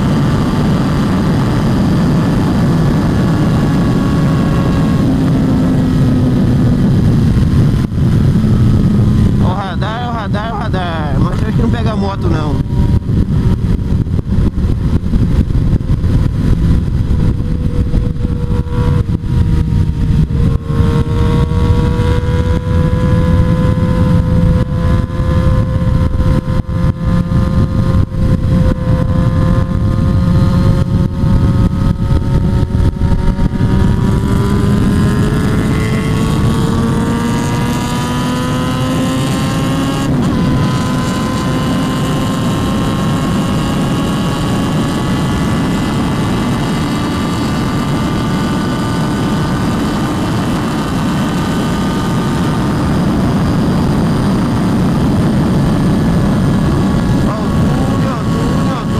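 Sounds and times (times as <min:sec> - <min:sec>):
motorcycle engine at high revs: 0:00.0 - 0:58.9
wind buffeting microphone: 0:00.0 - 0:58.9.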